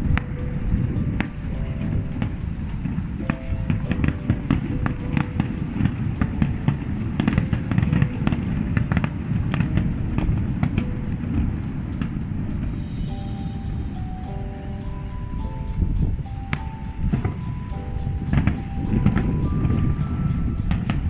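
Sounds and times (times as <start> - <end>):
fireworks crackling and banging: 0.0 - 21.0
music playing: 0.0 - 21.0.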